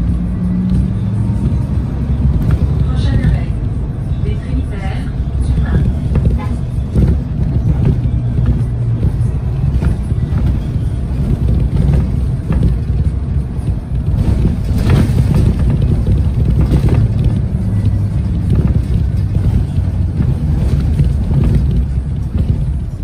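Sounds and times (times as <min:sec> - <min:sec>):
bus engine and road drone: 0:00.0 - 0:23.0.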